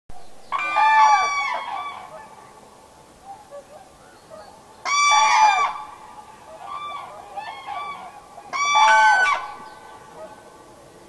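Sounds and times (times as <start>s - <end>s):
crane trumpeting calls: 0.5s - 2.4s, 3.5s - 10.6s.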